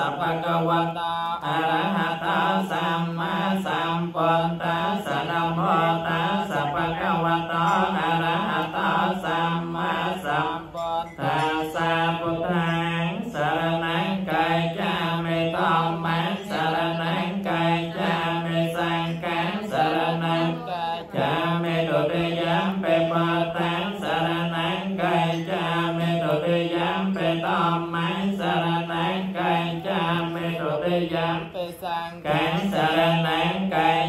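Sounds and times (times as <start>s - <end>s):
voices chanting together: 0.0s - 34.0s.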